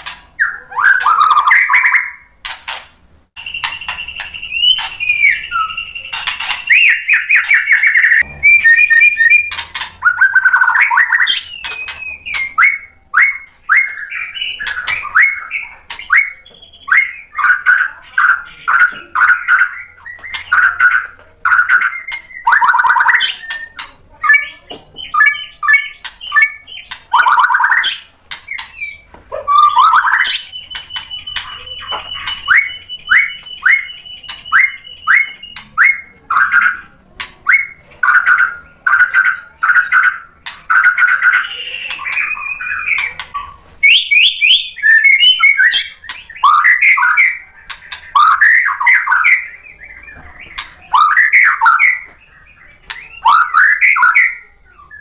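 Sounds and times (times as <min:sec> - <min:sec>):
bird singing: 0:00.0 - 0:02.6, 0:03.4 - 0:55.0.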